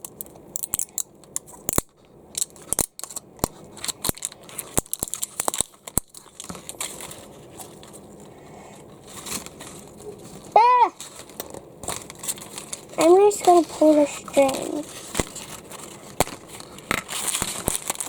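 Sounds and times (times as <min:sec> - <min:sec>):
plastic packet crinkling: 0:00.7 - 0:08.3, 0:09.0 - 0:18.0.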